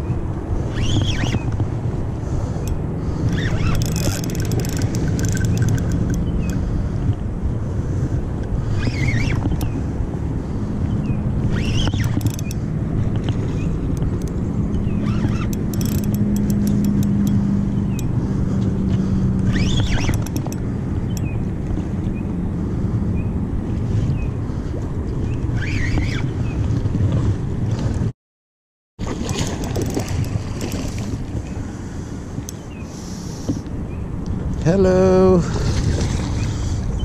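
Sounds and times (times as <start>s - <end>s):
wind on microphone: 0.0s - 28.1s, 29.0s - 37.0s.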